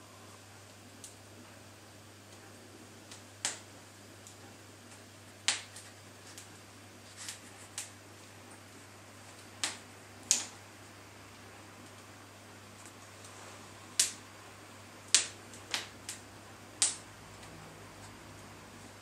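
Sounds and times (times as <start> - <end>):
faint low hum: 0.0 - 19.0
fire crackling and popping: 0.2 - 19.0.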